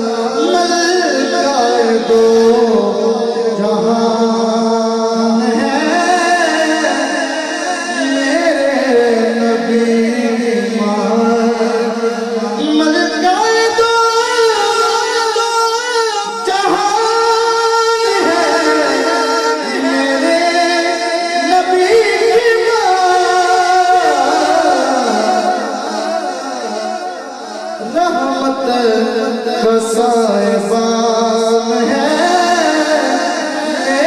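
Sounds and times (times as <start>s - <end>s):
man singing into a microphone: 0.0s - 34.0s.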